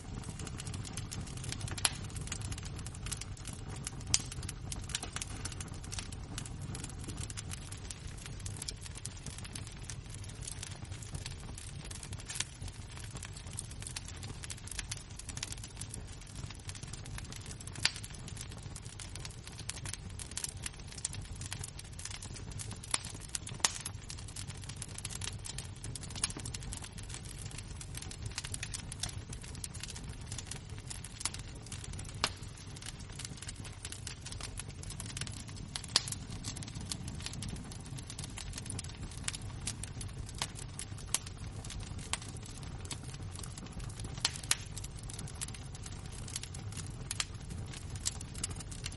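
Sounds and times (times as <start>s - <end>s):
embers crackling and popping: 0.0s - 48.9s.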